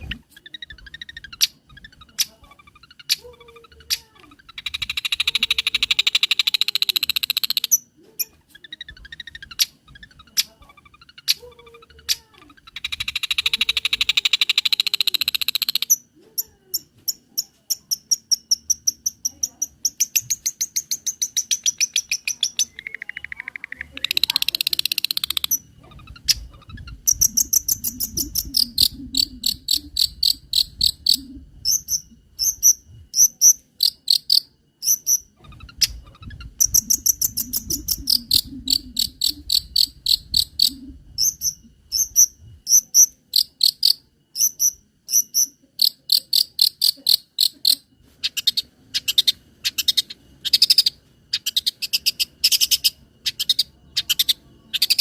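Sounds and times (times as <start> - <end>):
bird singing rapid high chirps: 0.0 - 16.1, 16.8 - 47.4, 48.2 - 55.0.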